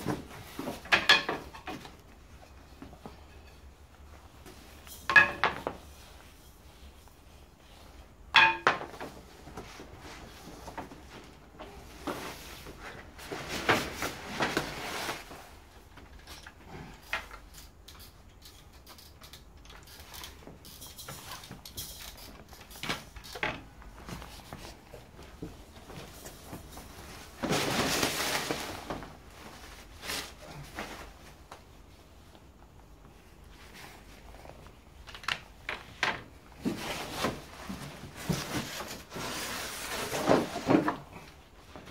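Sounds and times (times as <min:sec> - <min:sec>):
cardboard and wrapping rustling: 0:00.0 - 0:18.1, 0:18.7 - 0:41.9.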